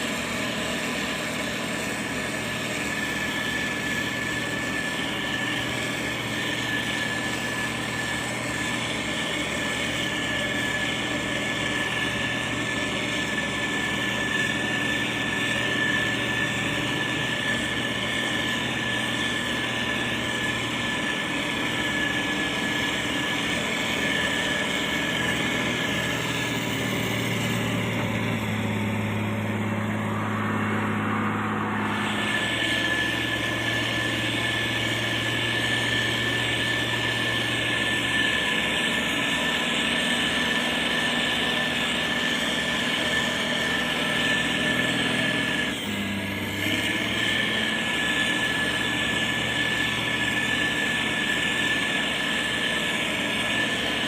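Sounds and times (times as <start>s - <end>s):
diesel machinery engine: 0.0s - 54.0s
high whine: 0.0s - 54.0s.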